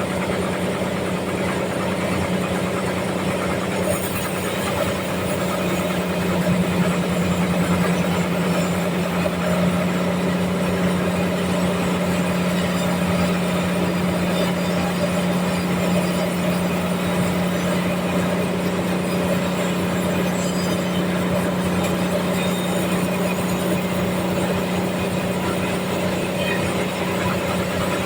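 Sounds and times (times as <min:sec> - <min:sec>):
sawmill sawing log: 0:00.0 - 0:28.0.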